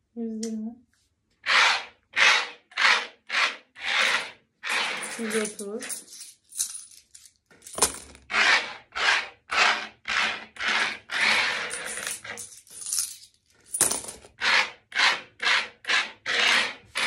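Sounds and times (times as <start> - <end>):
coins sliding across wooden table: 1.4 - 15.7.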